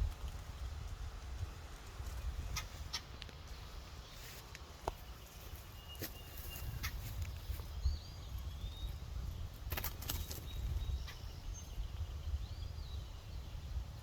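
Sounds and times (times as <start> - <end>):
low wind-like rumble: 0.0 - 14.0.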